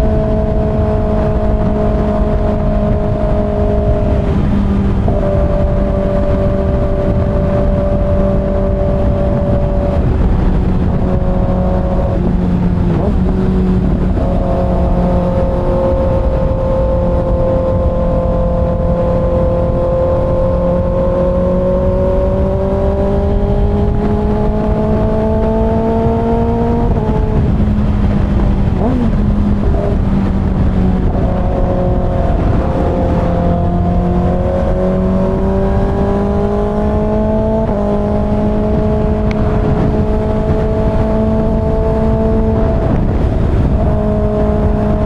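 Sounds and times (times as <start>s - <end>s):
motorcycle engine cruising: 0.0s - 45.0s
wind rush: 0.0s - 45.0s.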